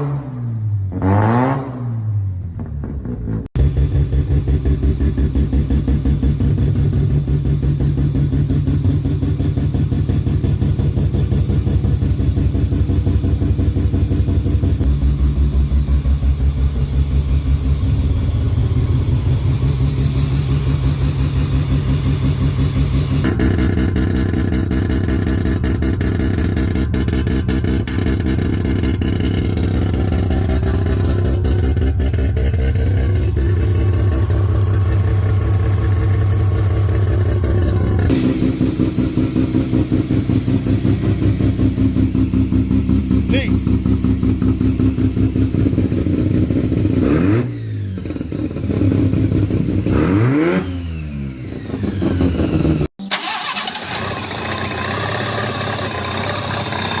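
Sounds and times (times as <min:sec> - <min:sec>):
rotary engine pulsing exhaust: 0:02.5 - 0:57.0.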